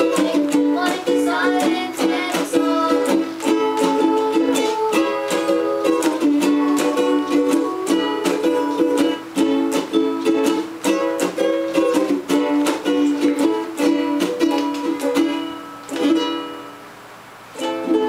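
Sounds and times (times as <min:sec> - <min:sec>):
ukuleles strumming chords: 0:00.0 - 0:18.0.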